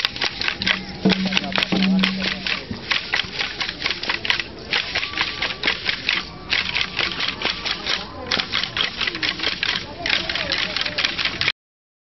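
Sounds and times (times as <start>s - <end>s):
rattles and wooden sticks clattering: 0.0s - 11.5s.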